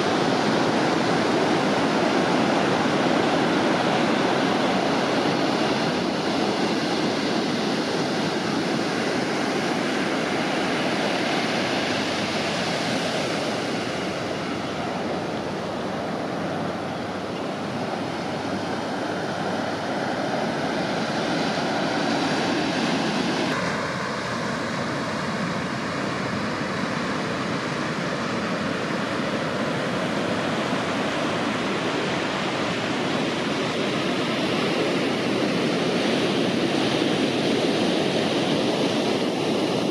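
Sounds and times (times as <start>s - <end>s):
ocean surf breaking on sand: 0.0s - 39.9s.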